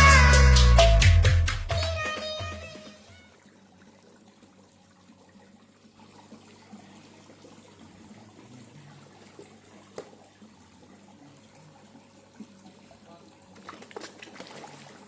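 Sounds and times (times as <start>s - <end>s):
faint trickling water: 2.4s - 15.0s.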